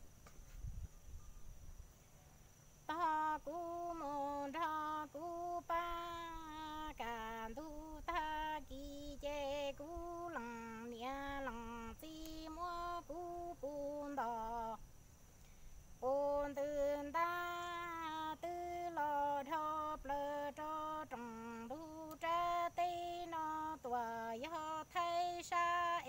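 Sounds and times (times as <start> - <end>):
woman singing unaccompanied: 2.8 - 14.9, 16.0 - 26.0.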